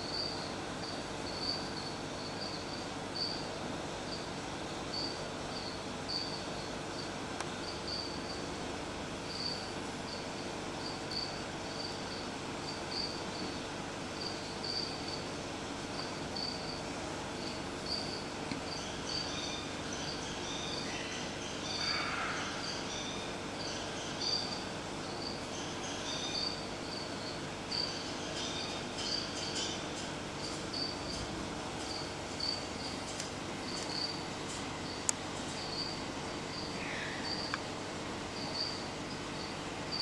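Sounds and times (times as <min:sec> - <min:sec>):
crickets chirping: 0:00.0 - 0:40.0
steady low hiss and hum: 0:00.0 - 0:40.0.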